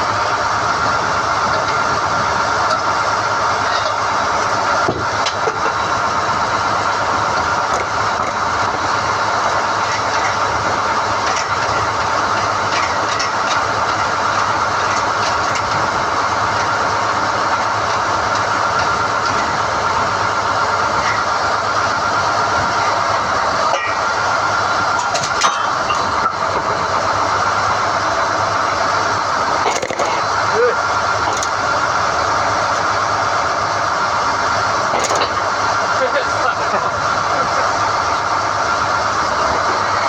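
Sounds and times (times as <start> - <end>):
drilling rig running: 0.0 - 40.0.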